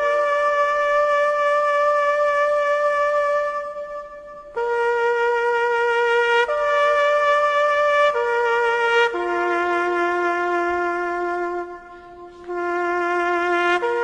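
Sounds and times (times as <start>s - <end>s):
slow reedy wind instrument melody: 0.0s - 14.0s.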